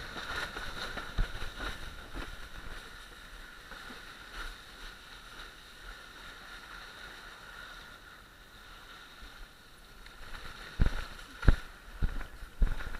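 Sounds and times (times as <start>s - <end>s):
wind: 0.0s - 12.9s.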